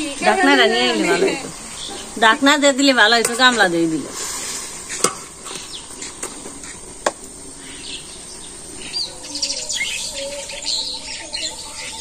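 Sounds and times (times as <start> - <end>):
birds chirping: 0.0 - 4.2, 4.8 - 12.0.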